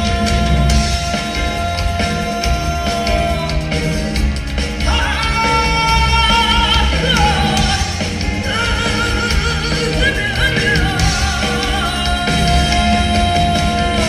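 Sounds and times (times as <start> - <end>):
band with heavy bass: 0.0 - 14.0.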